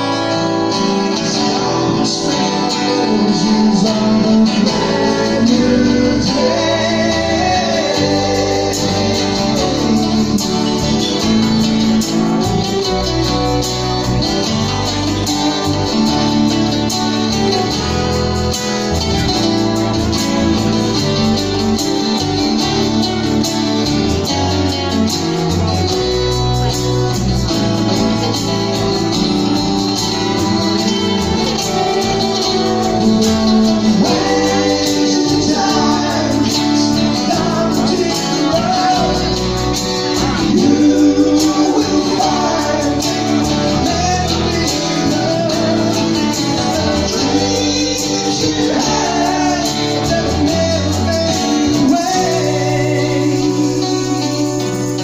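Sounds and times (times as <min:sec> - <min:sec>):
strummed acoustic guitars: 0:00.0 - 0:55.0.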